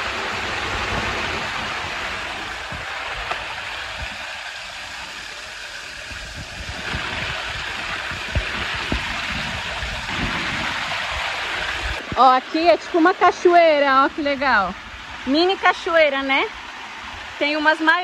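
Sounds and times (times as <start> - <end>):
sharp water splashes: 0.0 - 18.0
small waterfall pouring: 0.0 - 18.0.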